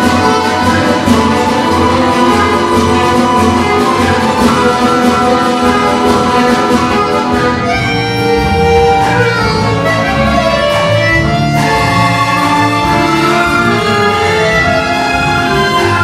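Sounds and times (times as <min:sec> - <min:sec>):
folk instrument orchestra playing: 0:00.0 - 0:16.0.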